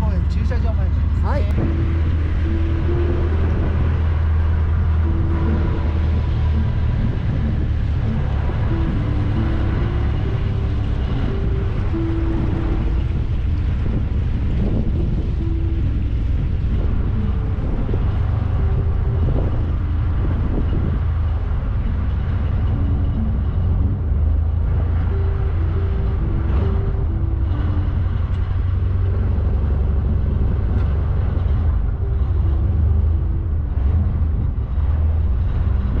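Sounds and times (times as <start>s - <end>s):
boat engine rumbling: 0.0s - 36.0s
wind buffeting microphone: 0.0s - 36.0s.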